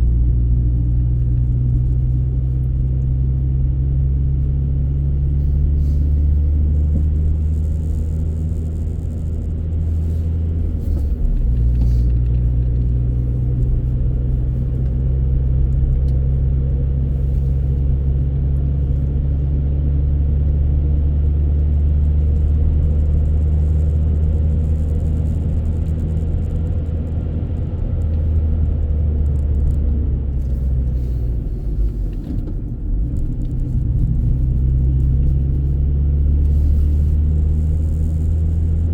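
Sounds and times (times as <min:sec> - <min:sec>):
car driving rumble: 0:00.0 - 0:38.9.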